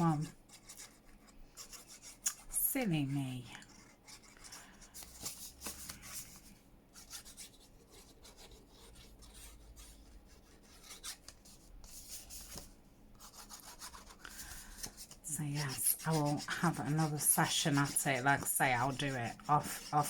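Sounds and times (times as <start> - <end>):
paper rustling and rubbing: 3.7 - 20.0.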